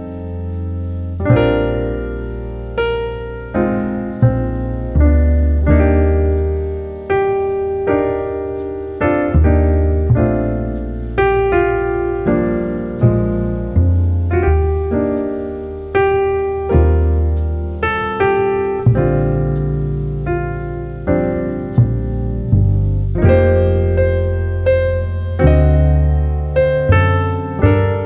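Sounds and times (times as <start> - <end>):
slow piano chords: 0.0 - 28.0.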